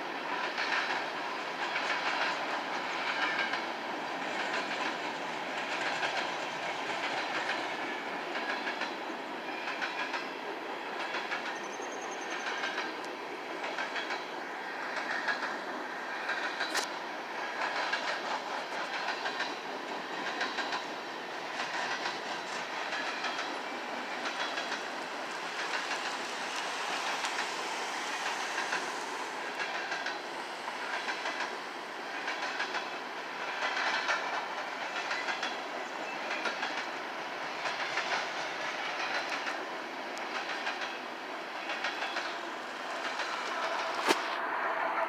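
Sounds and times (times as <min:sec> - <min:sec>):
train rushing rumble: 0:00.0 - 0:45.0
train wheels clacking over joints: 0:00.3 - 0:45.0.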